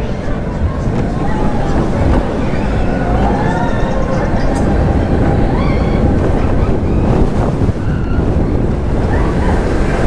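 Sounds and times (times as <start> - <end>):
roller coaster train rumbling: 0.0 - 10.0
wind rushing over microphone: 0.0 - 10.0.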